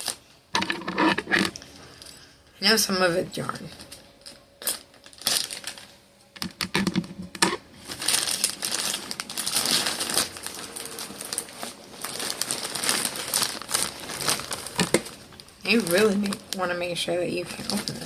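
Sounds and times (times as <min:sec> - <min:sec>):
packaging crinkling and rustling: 0:00.0 - 0:02.2, 0:03.5 - 0:18.0.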